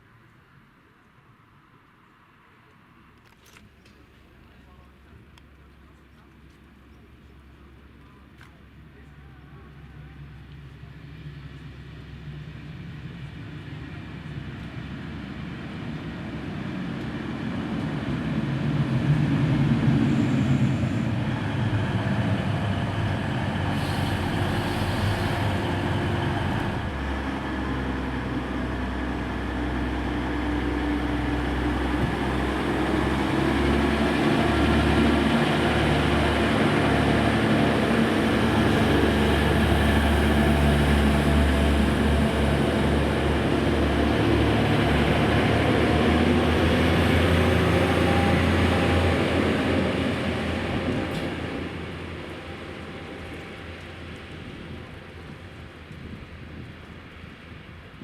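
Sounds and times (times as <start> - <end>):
diesel train engine: 3.2 - 58.0.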